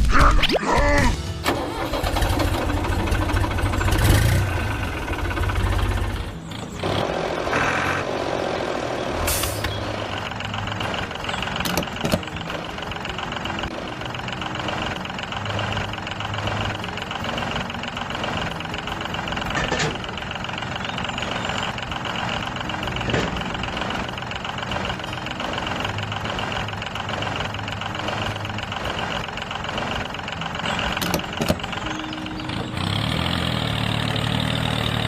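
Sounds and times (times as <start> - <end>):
engine running: 1.1 - 35.0.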